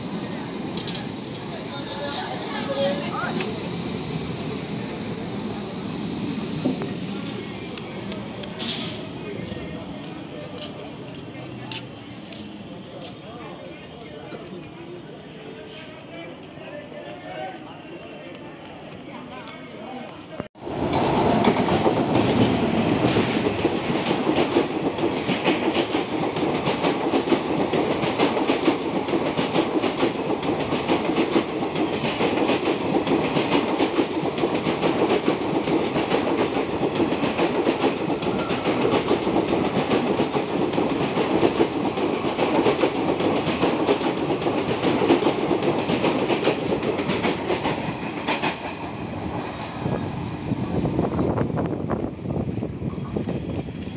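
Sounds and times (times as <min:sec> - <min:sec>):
train wheels clickety-clack: 0:00.6 - 0:15.0, 0:20.8 - 0:51.1.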